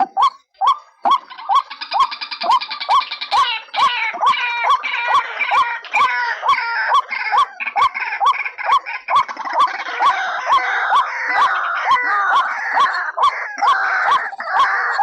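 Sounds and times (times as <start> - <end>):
bird calls with sharp clicks: 0.0 - 15.0
chatter of high-pitched bird calls: 0.0 - 15.0.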